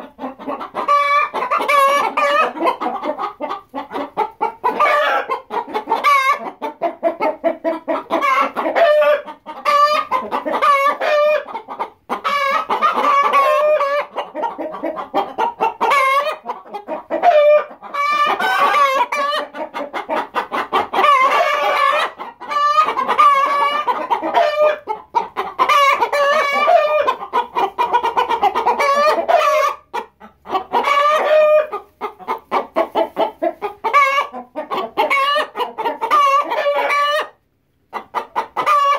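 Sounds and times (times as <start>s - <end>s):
hens clucking: 0.0s - 38.9s.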